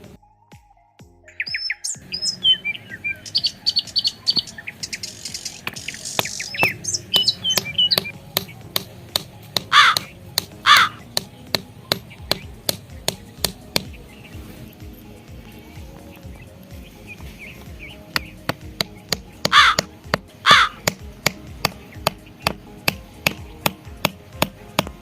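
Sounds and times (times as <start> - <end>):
birds chirping: 1.1 - 25.0.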